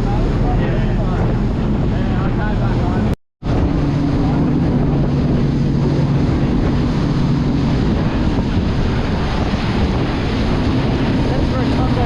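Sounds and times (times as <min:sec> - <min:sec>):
boat engine droning: 0:00.0 - 0:12.0
sea wash: 0:00.0 - 0:12.0
wind buffeting microphone: 0:00.0 - 0:12.0.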